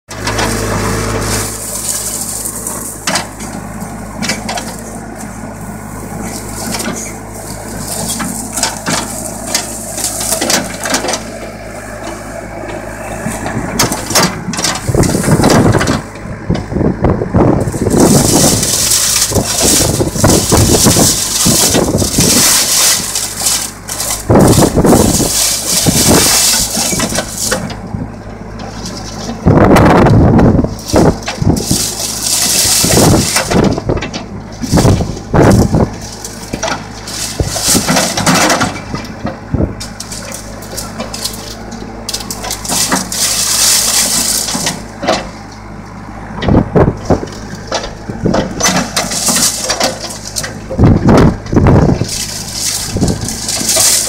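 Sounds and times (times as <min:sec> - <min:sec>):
dry palm fronds cracking: 0:00.1 - 0:16.1, 0:17.6 - 0:27.8, 0:30.1 - 0:45.4, 0:47.0 - 0:54.0
backhoe engine running: 0:00.1 - 0:54.0.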